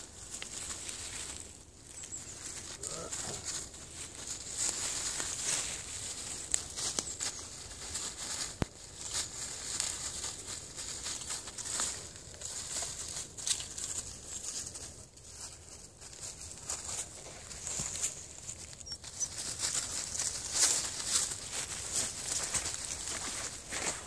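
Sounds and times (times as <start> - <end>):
rustling of dry leaves: 0.0 - 24.0.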